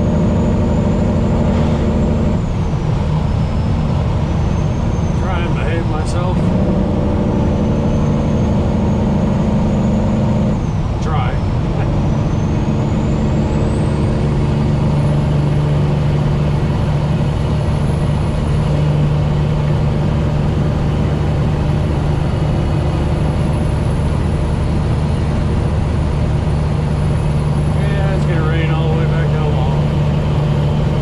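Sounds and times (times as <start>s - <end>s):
truck diesel engine drone: 0.0s - 31.0s.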